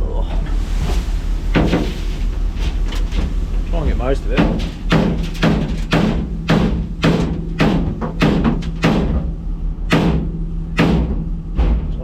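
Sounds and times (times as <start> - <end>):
low engine hum: 0.0 - 12.0
sharp knocks: 0.8 - 12.0.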